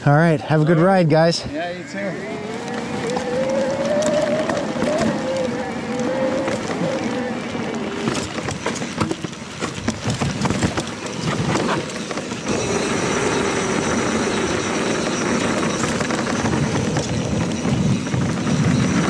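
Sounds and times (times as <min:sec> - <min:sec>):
tyre and wind noise: 0:00.0 - 0:19.0
bike rattling over rough trail: 0:01.2 - 0:19.0.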